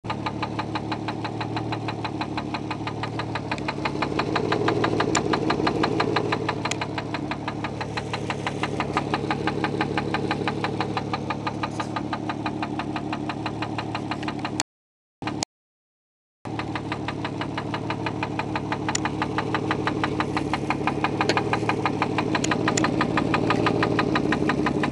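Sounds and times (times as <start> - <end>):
car engine knocking: 0.0 - 14.6, 15.2 - 15.4, 16.5 - 24.9.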